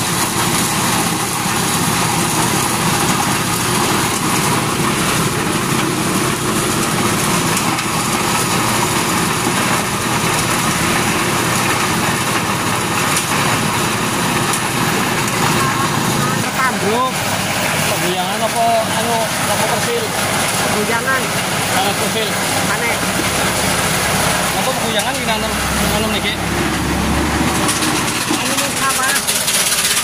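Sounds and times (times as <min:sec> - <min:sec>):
corn sheller engine drone: 0:00.0 - 0:30.0.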